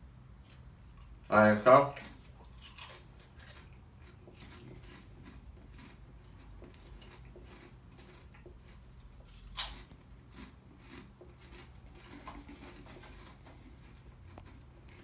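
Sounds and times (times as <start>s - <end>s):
chewing potato chip: 1.9s - 15.0s.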